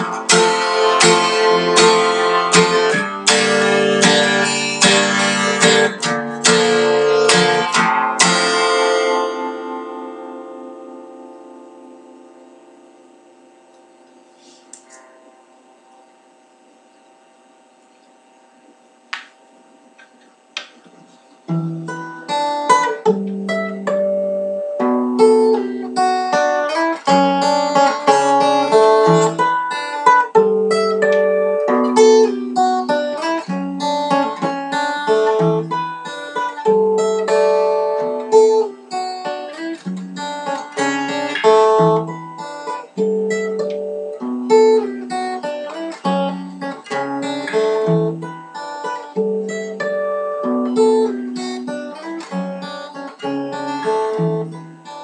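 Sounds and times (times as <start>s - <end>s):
acoustic guitar picking: 0.0s - 16.2s, 19.9s - 55.0s.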